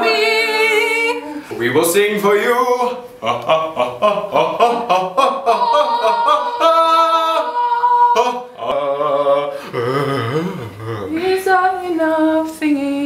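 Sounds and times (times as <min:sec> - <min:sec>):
man and woman singing wordlessly: 0:00.0 - 0:13.0.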